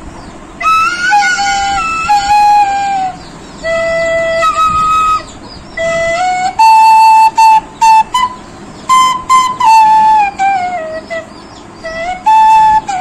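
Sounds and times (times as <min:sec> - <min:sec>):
bamboo flute folk melody: 0:00.6 - 0:13.0.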